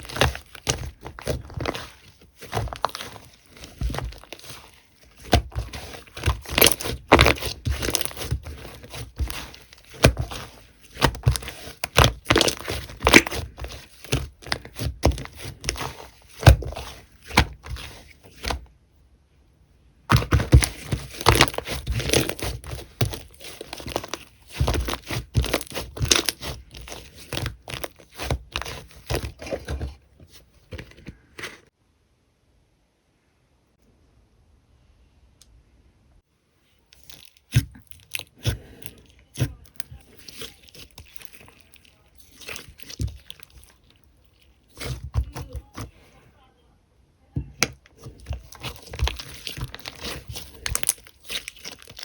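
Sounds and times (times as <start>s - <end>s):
slime crackling and popping: 0.0s - 18.6s, 20.1s - 29.9s, 36.9s - 45.8s, 47.6s - 52.0s.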